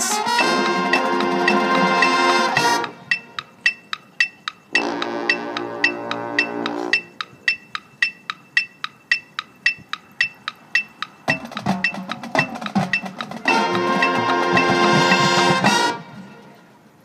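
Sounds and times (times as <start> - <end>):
marching band playing: 0.0 - 16.9
metronome ticking: 0.4 - 15.9.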